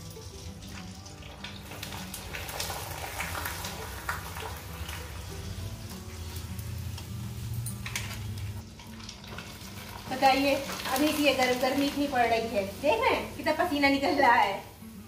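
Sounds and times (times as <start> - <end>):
food sizzling in hot oil: 0.0 - 15.0
soft background music: 0.0 - 15.0.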